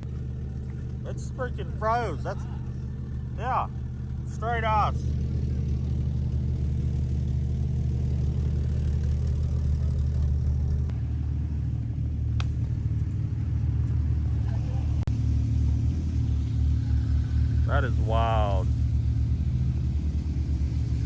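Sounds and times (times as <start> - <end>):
vehicle engine driving: 0.0 - 21.0.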